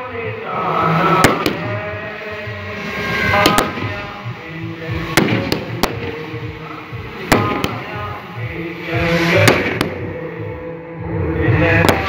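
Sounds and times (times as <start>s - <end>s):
firecrackers banging: 0.1s - 10.6s, 11.6s - 12.0s
music with steady beat: 1.0s - 12.0s.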